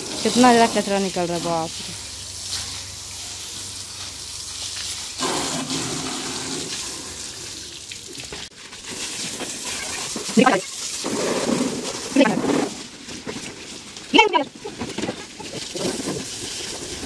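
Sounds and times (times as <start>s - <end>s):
hose water spraying and splashing: 0.0s - 17.0s.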